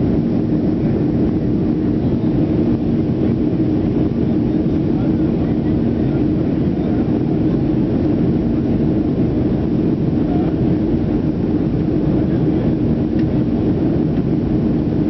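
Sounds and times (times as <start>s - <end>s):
jet engines roaring: 0.0s - 15.0s
low steady drone: 0.0s - 15.0s.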